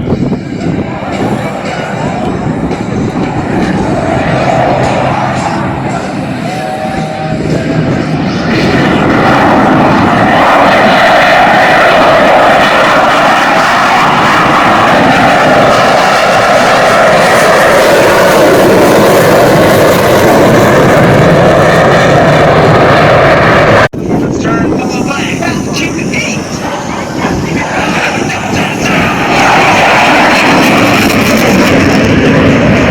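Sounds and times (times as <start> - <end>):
jet engine noise: 0.0 - 32.9.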